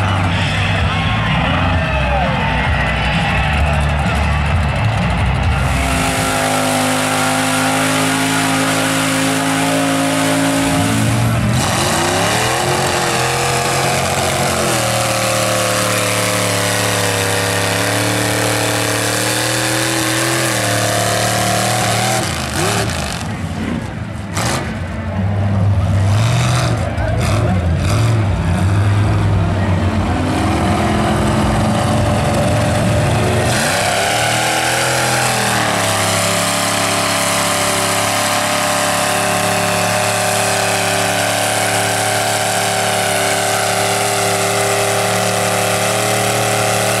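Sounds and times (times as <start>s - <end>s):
truck engine revving hard: 0.0s - 47.0s.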